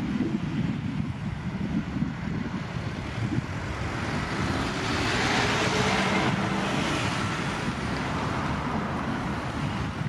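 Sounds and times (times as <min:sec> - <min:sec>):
jet engines at high power: 0:00.0 - 0:10.0.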